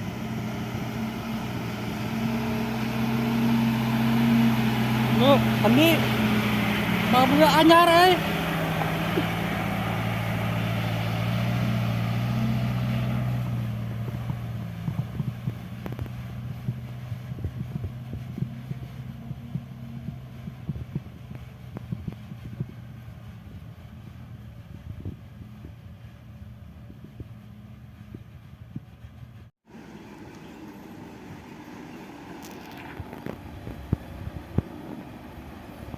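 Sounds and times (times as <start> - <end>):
truck diesel engine running: 0.0 - 35.9.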